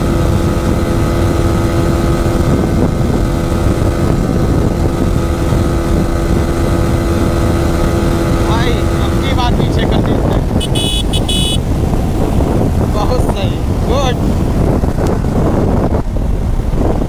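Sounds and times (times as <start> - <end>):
motorcycle engine at full throttle: 0.0 - 17.0
wind rush on microphone: 0.0 - 17.0.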